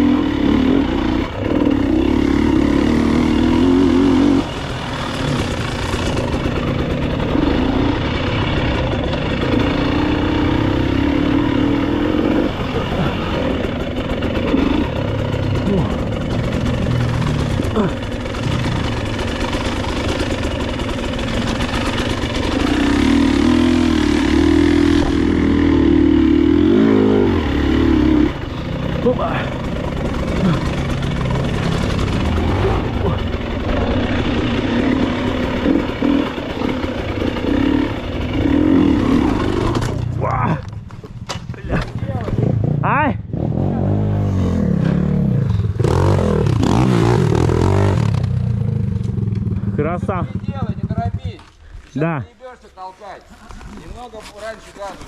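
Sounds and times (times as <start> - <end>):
motorcycle engine revving: 0.0 - 51.6.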